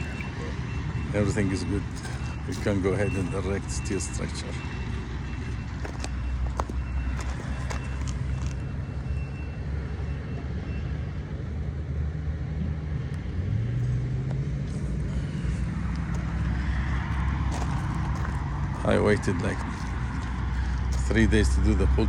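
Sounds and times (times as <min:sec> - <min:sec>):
engine running at low speed: 0:00.0 - 0:22.0.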